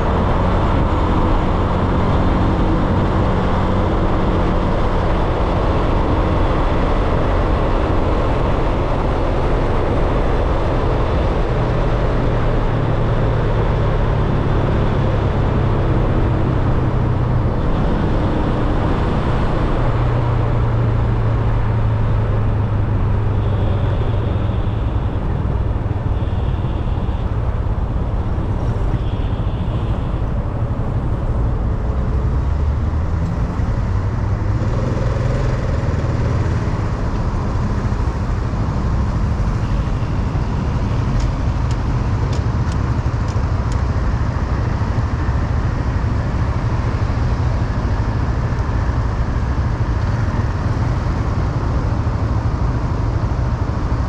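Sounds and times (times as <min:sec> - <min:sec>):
motorcycle engine hum: 0:00.0 - 0:54.0.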